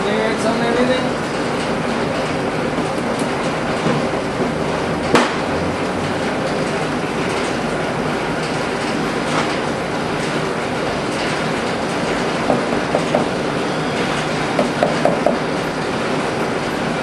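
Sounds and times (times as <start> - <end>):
loud rushing noise: 1.1 - 17.0.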